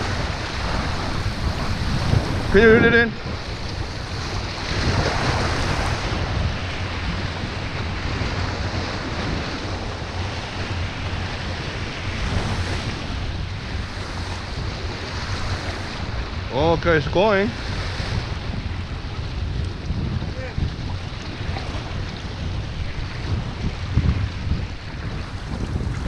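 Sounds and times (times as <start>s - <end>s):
waves splashing against rocks: 0.0s - 26.0s
wind buffeting microphone: 0.0s - 26.0s.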